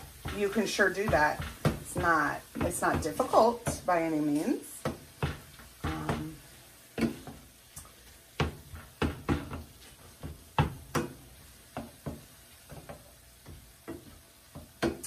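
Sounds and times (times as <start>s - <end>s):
chopper knocking on skillet: 0.0s - 6.4s, 8.3s - 15.0s.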